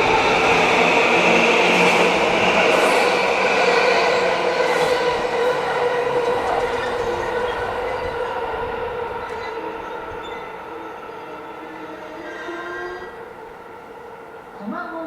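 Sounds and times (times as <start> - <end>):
electric train whine and rail noise: 0.0 - 15.0.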